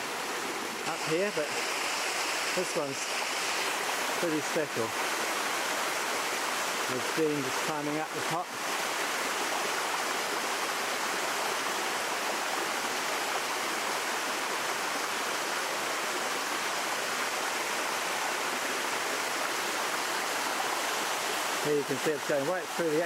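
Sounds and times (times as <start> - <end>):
water rushing down a waterfall: 0.0 - 23.0.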